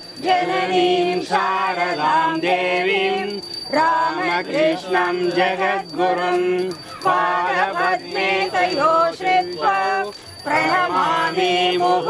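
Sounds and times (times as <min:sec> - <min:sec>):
bell ringing: 0:00.0 - 0:12.0
devotional singing: 0:00.0 - 0:12.0.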